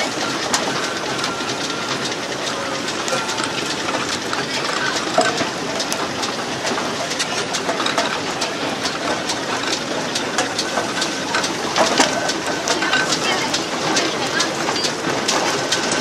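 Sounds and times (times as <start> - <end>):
sharp ticks and clanks: 0.0 - 16.0
steam roller running: 0.0 - 16.0.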